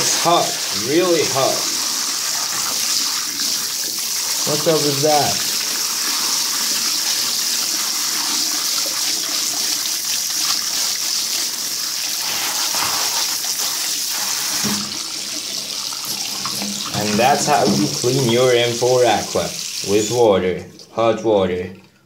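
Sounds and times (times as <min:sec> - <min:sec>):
water running from a tap: 0:00.0 - 0:21.0.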